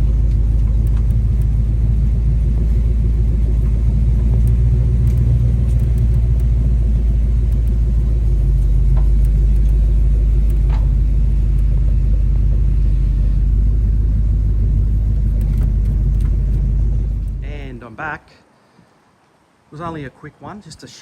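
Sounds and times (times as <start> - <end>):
car engine rumble: 0.0 - 18.1
road noise: 0.0 - 21.0.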